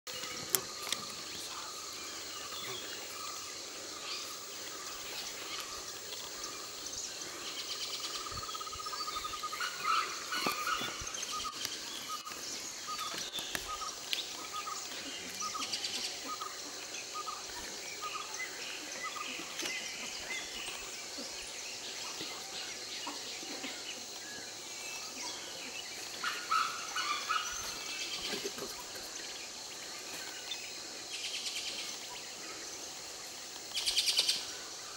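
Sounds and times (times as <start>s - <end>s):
forest birds calling: 0.1s - 34.9s
high insect drone: 0.1s - 34.9s.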